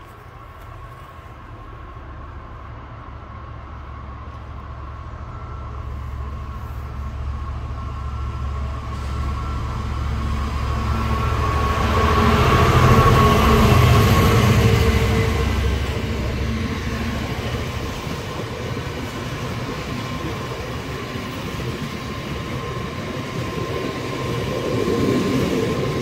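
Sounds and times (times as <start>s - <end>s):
diesel locomotive engine passing: 0.0s - 26.0s.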